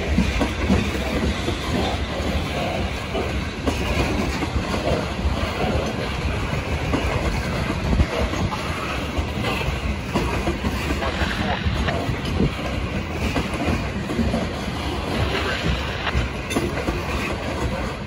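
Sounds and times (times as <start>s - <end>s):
train wheels on rails rumbling: 0.0s - 18.0s.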